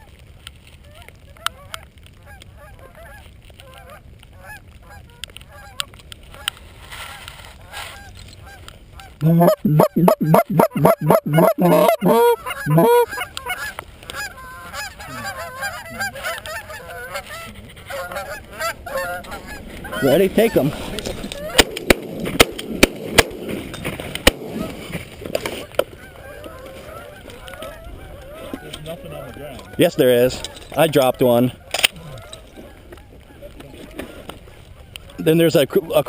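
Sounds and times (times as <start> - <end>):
geese honking: 0.8 - 22.5, 23.2 - 36.0.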